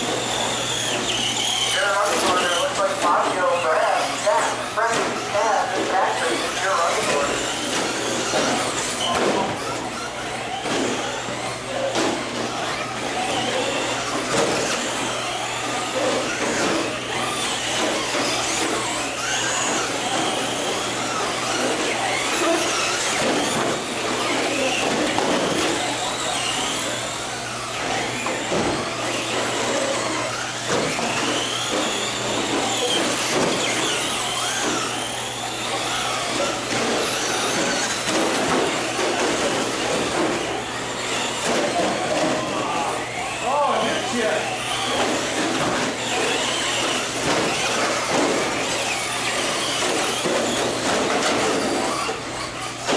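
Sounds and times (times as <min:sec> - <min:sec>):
electric rc truck motors whining: 0:00.0 - 0:52.9.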